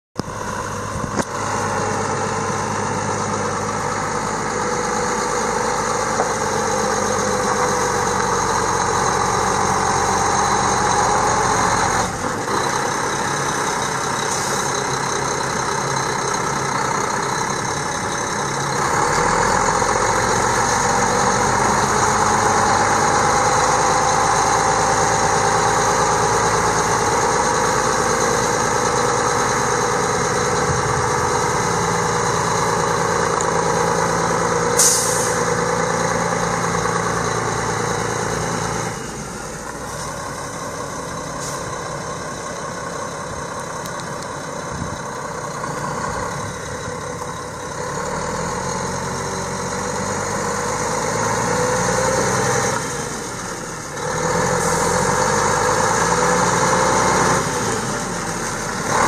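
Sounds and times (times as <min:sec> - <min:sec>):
diesel truck engine idling: 0:00.2 - 0:59.0.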